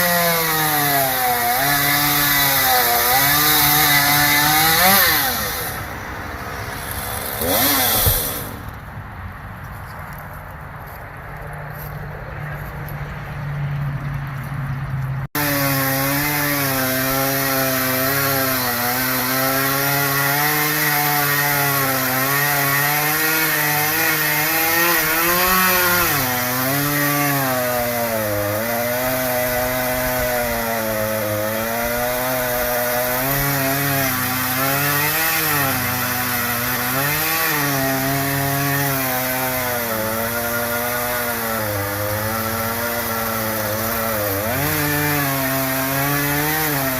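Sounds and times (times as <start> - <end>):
chainsaw cutting wood: 0.0 - 8.8, 15.3 - 46.9.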